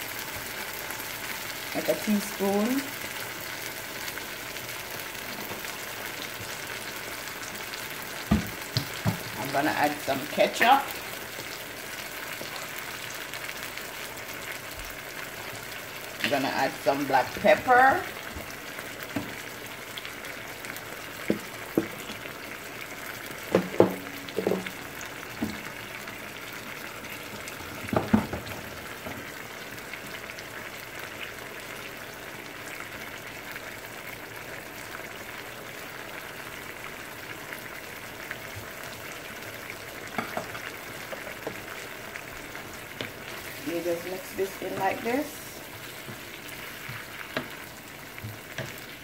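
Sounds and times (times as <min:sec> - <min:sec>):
fish sizzling in a skillet: 0:00.0 - 0:49.0.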